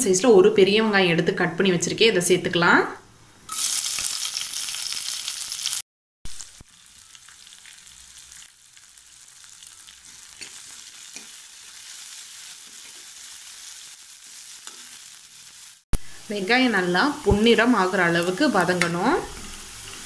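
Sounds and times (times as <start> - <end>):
onions sizzling in hot oil: 3.5 - 20.0.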